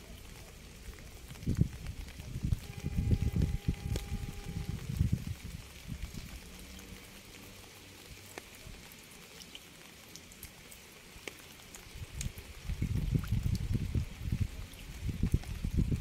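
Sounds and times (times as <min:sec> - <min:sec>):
rain hiss: 0:00.0 - 0:16.0
raindrops ticking: 0:00.0 - 0:16.0.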